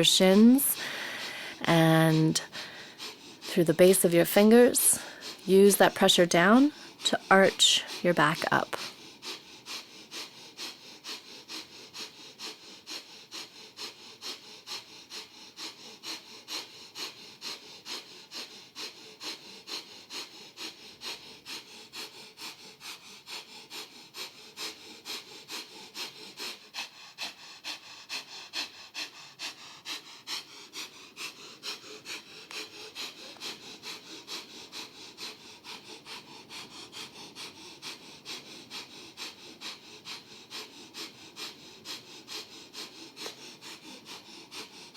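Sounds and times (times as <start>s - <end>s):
rapid breathing through nose: 0.0s - 44.9s.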